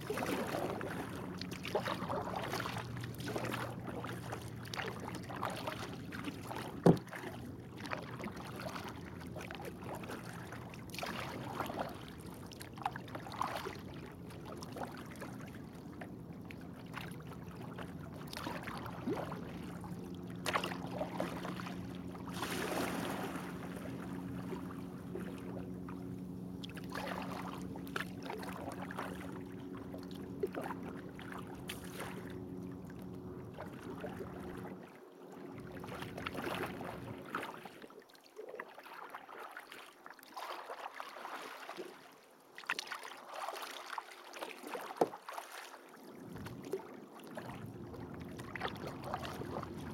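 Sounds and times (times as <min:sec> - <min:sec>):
low steady hum: 0:00.0 - 0:38.0, 0:45.9 - 0:49.9
paddle splashing in water: 0:00.0 - 0:49.9
water dripping and lapping: 0:00.0 - 0:49.9.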